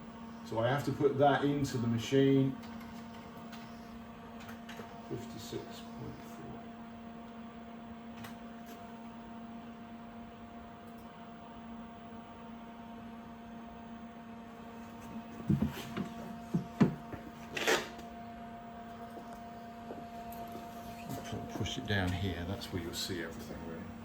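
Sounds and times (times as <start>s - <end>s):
lathe electrical hum: 0.0s - 24.0s.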